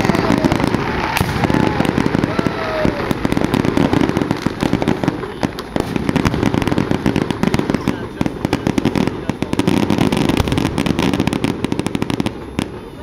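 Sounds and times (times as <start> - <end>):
crackle of rapid pops: 0.0 - 12.8
aerial fireworks bursting: 0.0 - 13.0.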